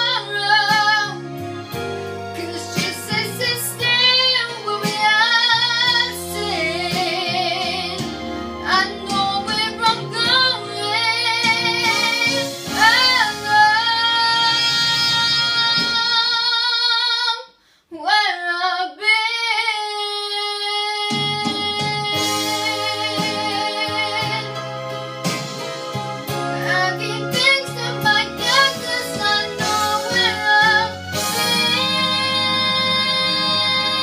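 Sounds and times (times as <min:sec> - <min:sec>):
girl singing: 0:00.0 - 0:01.2, 0:02.4 - 0:08.0, 0:08.6 - 0:24.5, 0:26.6 - 0:34.0
backing track music: 0:00.0 - 0:16.5, 0:21.0 - 0:34.0.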